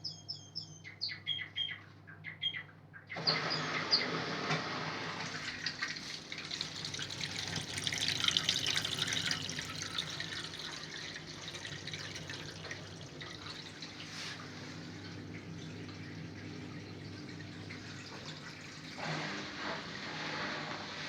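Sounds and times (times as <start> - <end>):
machine low hum: 0.0 - 21.0
water rushing in washing machine: 3.1 - 21.0.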